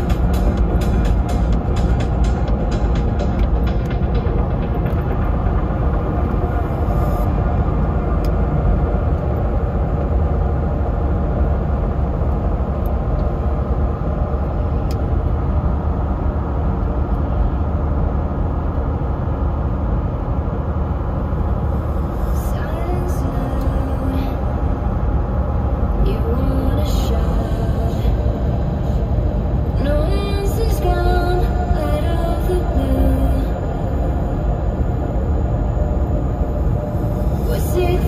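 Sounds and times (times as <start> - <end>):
vehicle interior road rumble: 0.0 - 38.0.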